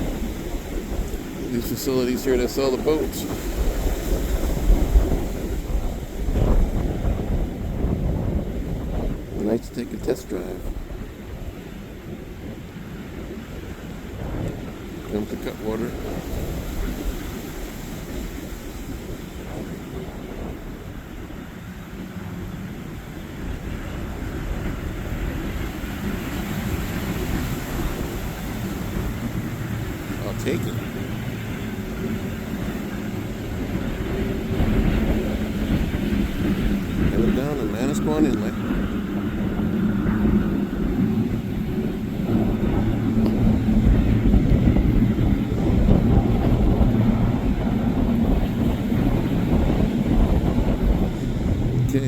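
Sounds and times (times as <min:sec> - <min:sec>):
motorboat engine rumble: 0:00.0 - 0:52.0
surf: 0:00.0 - 0:52.0
wind: 0:00.0 - 0:52.0.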